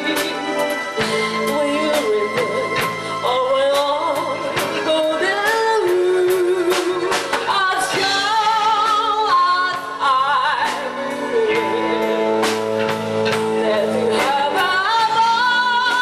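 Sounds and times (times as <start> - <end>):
live band playing: 0.0 - 16.0
woman singing with vibrato: 0.0 - 16.0.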